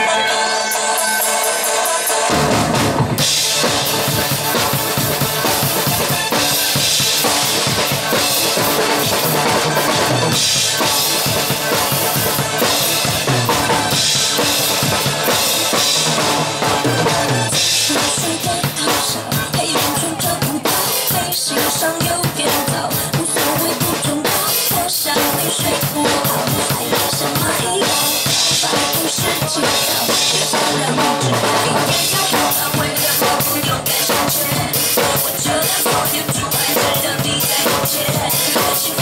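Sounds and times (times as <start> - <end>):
drum kit playing: 0.0 - 39.0
pop backing track: 0.0 - 39.0.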